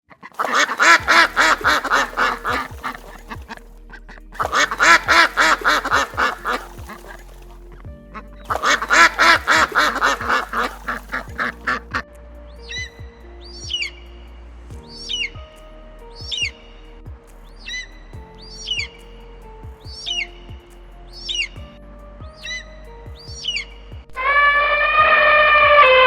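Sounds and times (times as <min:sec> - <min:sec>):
soft background music with beat: 0:00.4 - 0:26.0.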